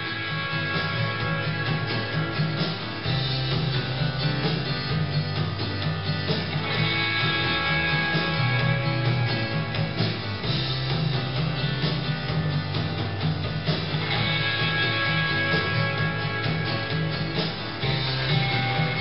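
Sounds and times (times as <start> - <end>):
guitar music: 0.0 - 19.0.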